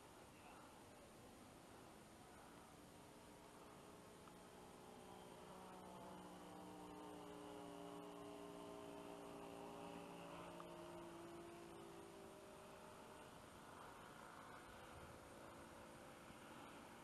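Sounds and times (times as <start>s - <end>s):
model airplane engine drone: 0.0s - 17.0s.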